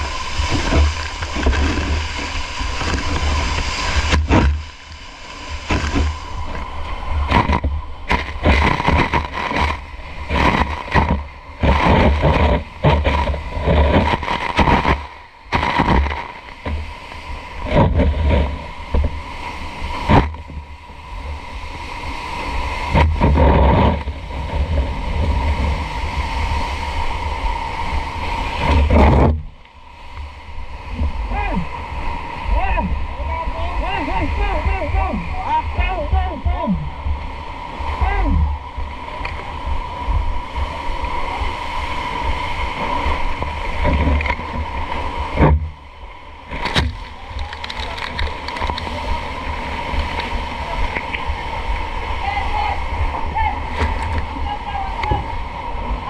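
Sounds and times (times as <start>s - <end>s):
low rumble on microphone: 0.0s - 56.0s
rushing wind gusts: 0.0s - 56.0s.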